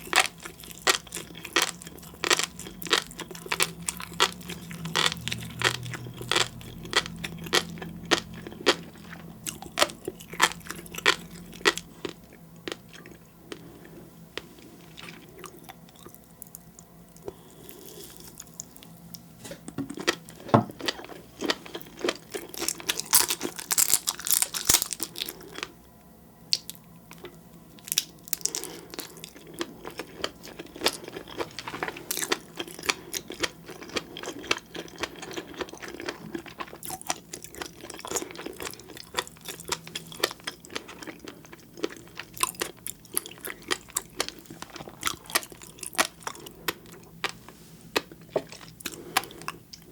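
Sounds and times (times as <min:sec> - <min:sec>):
close chewing of crunchy seafood: 0:00.0 - 0:19.2, 0:19.8 - 0:25.8, 0:26.5 - 0:49.9.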